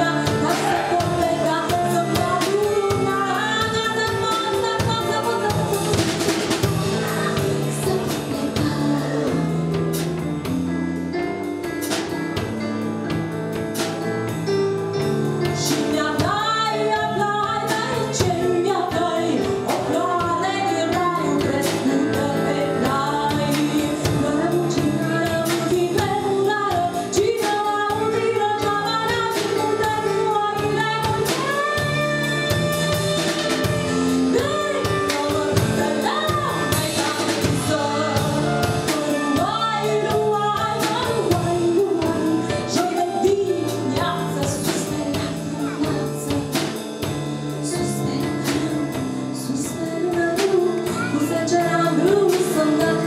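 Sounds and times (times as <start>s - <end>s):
woman singing into a microphone: 0.0s - 10.4s, 15.4s - 53.0s
live folk band playing: 0.0s - 53.0s.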